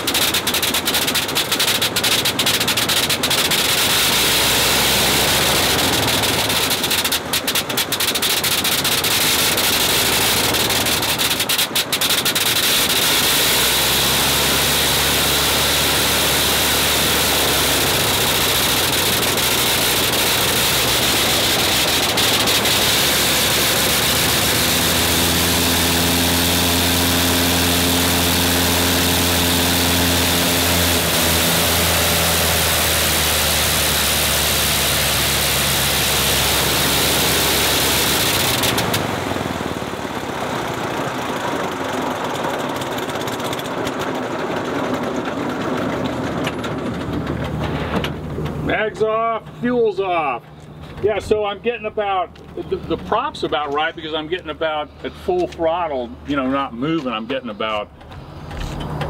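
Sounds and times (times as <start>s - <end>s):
rotary aircraft engine running: 0.0s - 48.7s, 57.9s - 59.0s.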